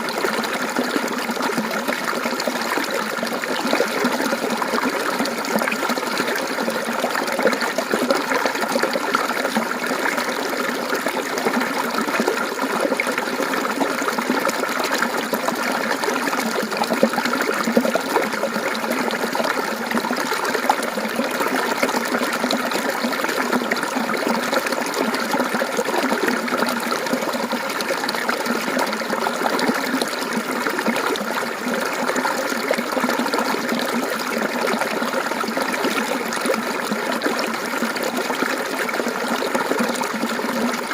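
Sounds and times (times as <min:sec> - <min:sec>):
stream water babbling over rocks: 0:00.0 - 0:40.9.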